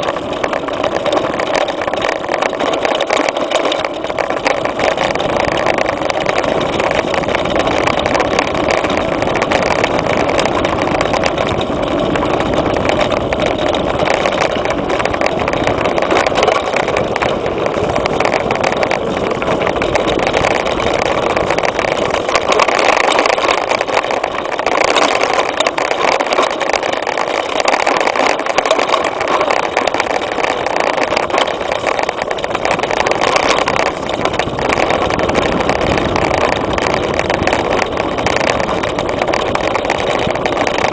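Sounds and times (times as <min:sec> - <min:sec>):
mountain bike rattling on trail: 0:00.0 - 0:40.9
wind on microphone: 0:00.0 - 0:40.9.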